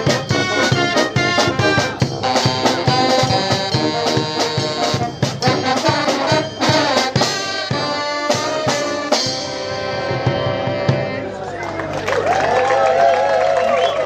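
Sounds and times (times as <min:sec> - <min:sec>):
steady drum beat: 0:00.0 - 0:11.4
trumpets and trombones: 0:00.0 - 0:11.5.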